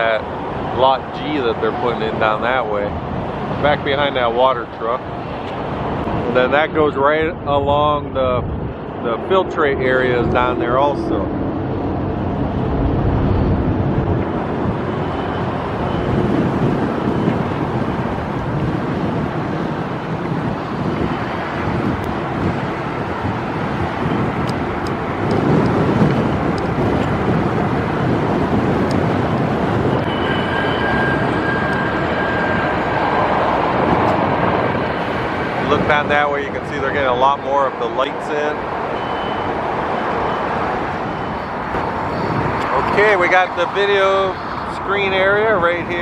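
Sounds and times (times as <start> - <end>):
vehicle engines rumbling: 0.0 - 46.0.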